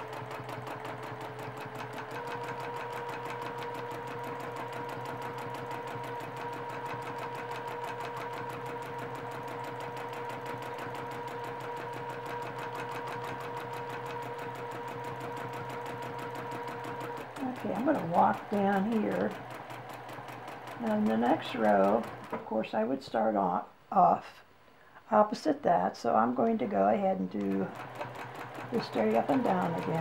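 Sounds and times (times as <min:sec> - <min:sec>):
sewing machine running: 0:00.0 - 0:22.4, 0:27.4 - 0:30.0.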